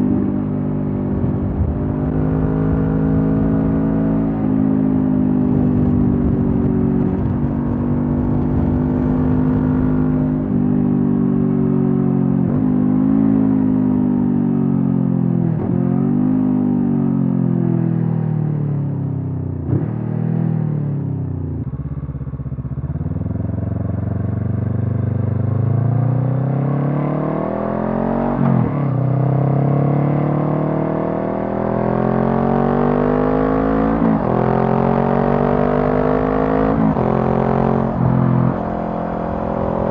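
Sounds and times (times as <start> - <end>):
motorcycle engine revving: 0.0 - 17.0, 19.6 - 39.9.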